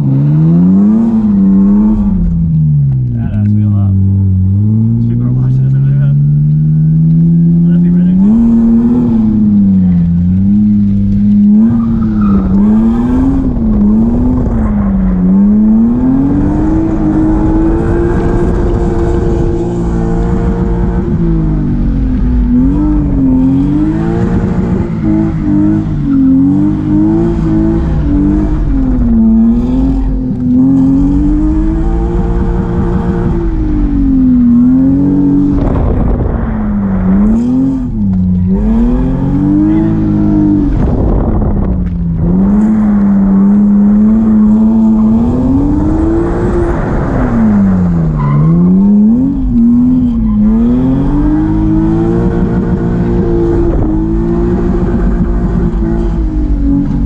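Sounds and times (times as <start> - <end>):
car engine revving: 0.0 - 57.0
tires squealing: 4.5 - 57.0.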